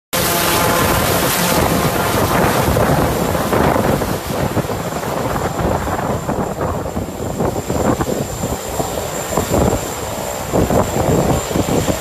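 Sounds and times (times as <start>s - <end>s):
turboprop plane engines rushing: 0.1s - 12.0s.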